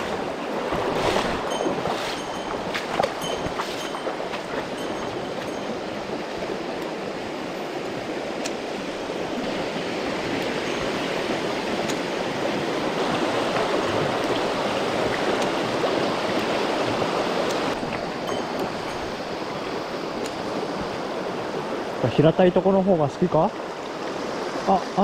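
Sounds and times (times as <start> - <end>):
mountain stream flowing: 0.0 - 25.0.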